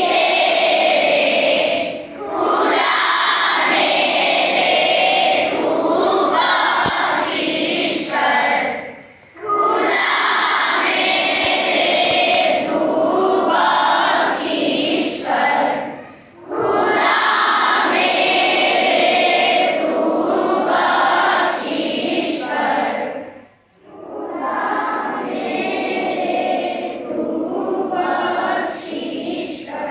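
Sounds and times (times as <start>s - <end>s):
children singing together: 0.0s - 29.9s.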